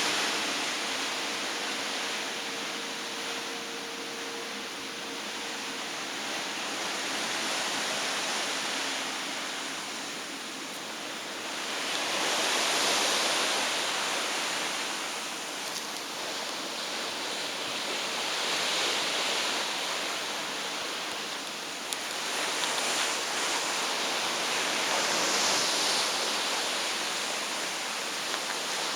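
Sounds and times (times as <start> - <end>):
sea water rushing and churning: 0.0 - 28.9.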